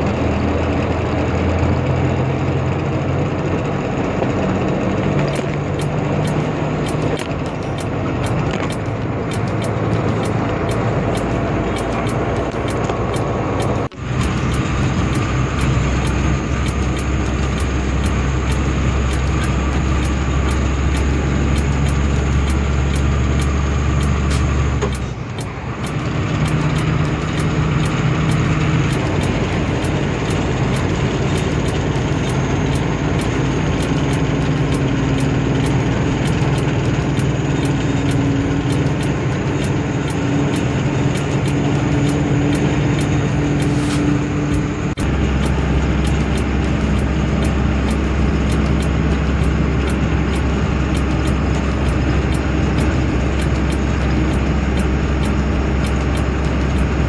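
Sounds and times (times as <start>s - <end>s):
truck diesel engine from cab: 0.0s - 57.0s.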